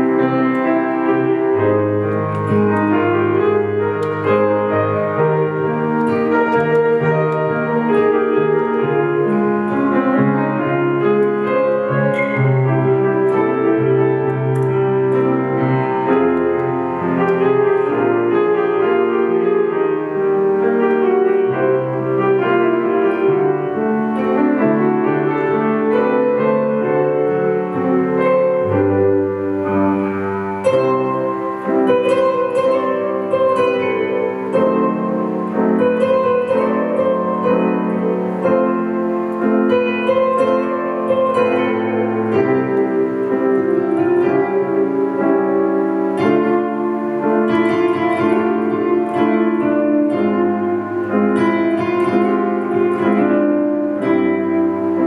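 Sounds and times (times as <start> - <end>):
acoustic guitar playing: 0.0 - 55.0
grand piano playing: 0.0 - 55.0.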